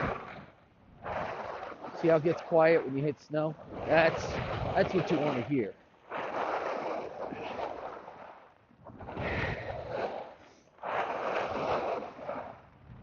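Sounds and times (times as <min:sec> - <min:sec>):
skis scraping on ice: 0:01.0 - 0:12.7.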